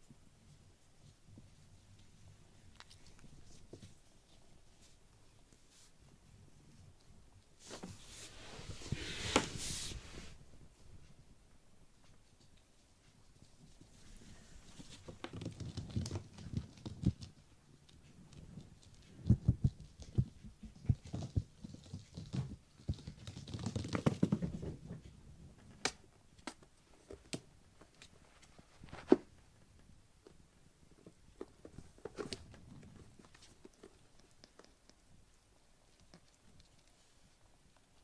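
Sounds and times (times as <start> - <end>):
small paws pattering on a mat: 0.1 - 38.0.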